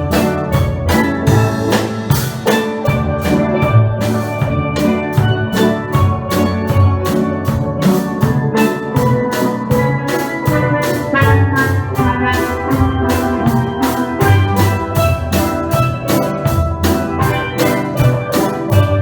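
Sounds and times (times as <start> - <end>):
drum kit beat: 0.0 - 19.0
steel pan band playing: 0.0 - 19.0.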